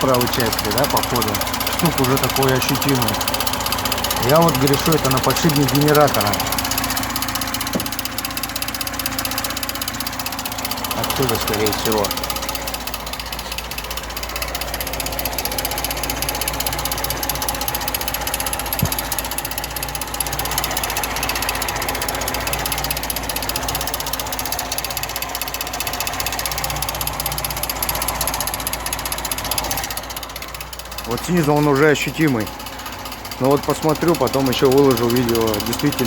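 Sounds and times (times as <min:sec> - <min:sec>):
car engine idling: 0:00.0 - 0:36.0
fast metallic knocking: 0:00.0 - 0:36.0.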